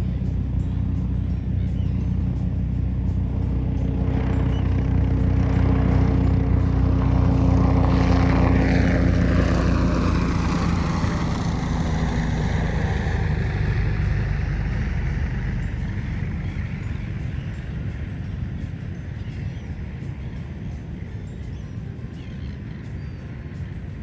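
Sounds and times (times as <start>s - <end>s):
loud engine drone: 0.0s - 24.0s.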